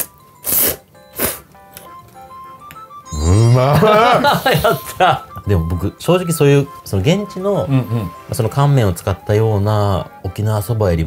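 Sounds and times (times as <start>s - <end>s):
light background music: 0.0s - 11.0s.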